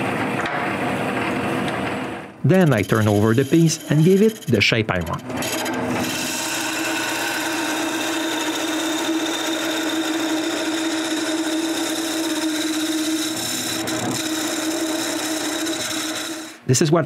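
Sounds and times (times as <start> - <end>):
wood lathe motor hum: 2.6 - 16.7.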